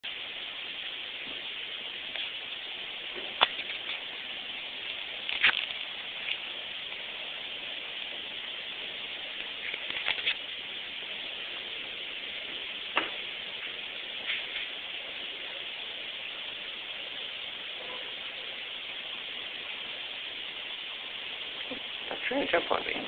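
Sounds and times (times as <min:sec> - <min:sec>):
recording hiss: 0:00.0 - 0:23.0.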